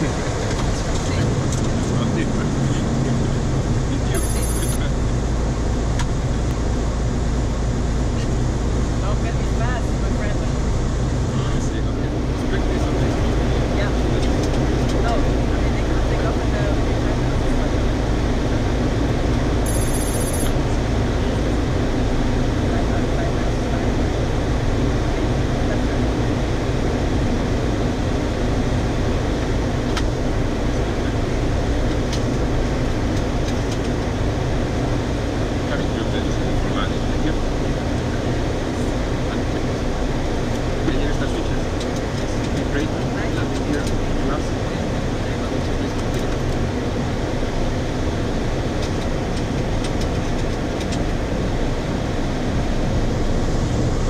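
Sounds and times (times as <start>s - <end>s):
airflow and jet engines rushing: 0.0s - 54.0s.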